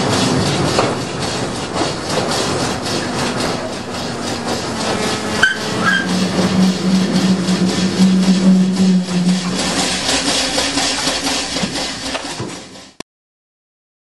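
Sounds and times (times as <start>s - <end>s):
low hum: 0.0s - 12.0s
locomotive engine and wheels rumble: 0.0s - 13.0s
metallic squeak: 0.2s - 12.7s.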